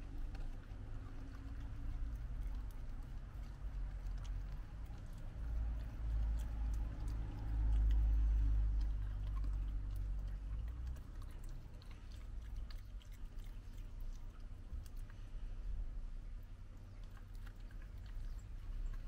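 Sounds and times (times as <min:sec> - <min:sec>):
animal crunching biscuit: 0:00.0 - 0:15.3, 0:16.8 - 0:19.0.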